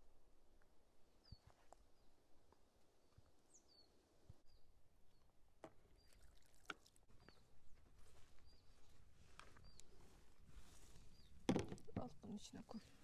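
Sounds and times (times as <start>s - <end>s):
small birds chirping: 1.2s - 13.0s.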